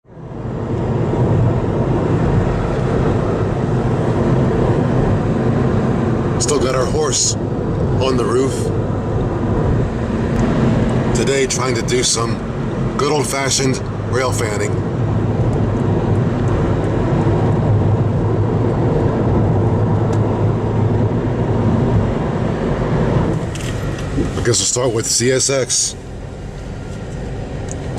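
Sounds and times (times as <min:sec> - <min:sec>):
car engine hum: 0:00.0 - 0:27.9
road noise: 0:00.0 - 0:27.9.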